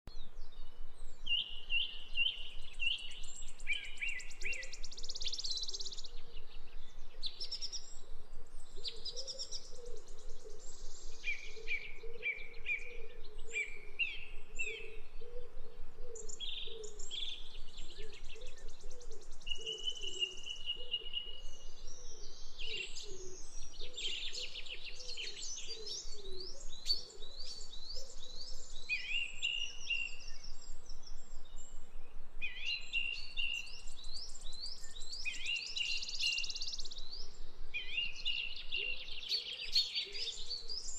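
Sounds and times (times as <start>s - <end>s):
birds chirping and trilling: 0.2s - 40.9s.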